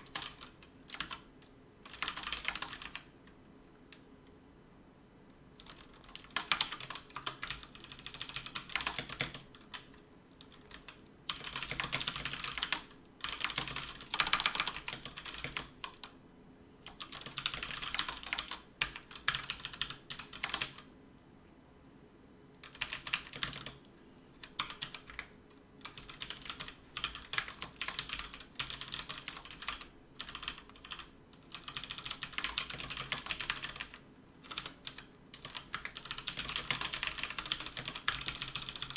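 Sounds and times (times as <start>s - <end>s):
fast typing on keyboard: 0.0s - 3.1s, 5.6s - 16.2s, 16.8s - 20.9s, 22.6s - 23.8s, 24.4s - 38.9s.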